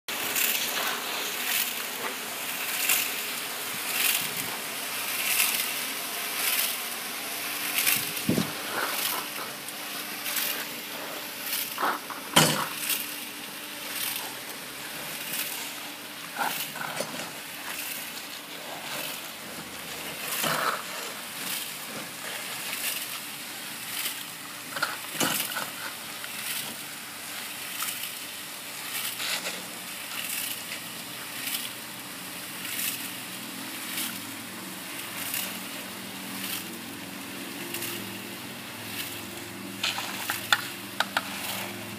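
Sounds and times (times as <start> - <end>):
drum mixer tumbling wet stones: 0.1 - 41.9.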